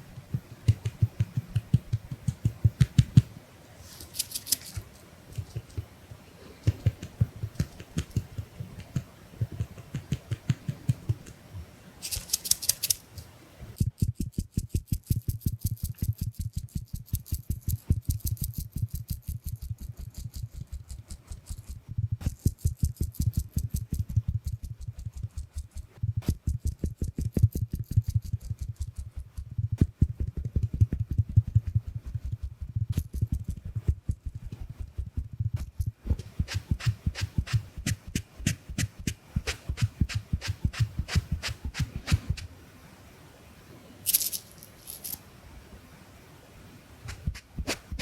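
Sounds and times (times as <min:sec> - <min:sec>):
sponge patting on lens: 0:00.0 - 0:42.5, 0:47.0 - 0:48.0.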